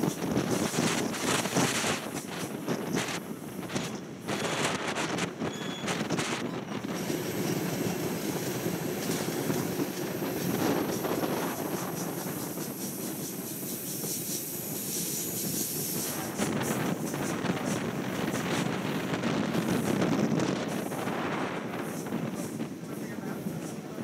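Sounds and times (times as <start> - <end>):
rushing air: 0.0 - 23.4
train wheels rumbling on rail: 0.0 - 24.0.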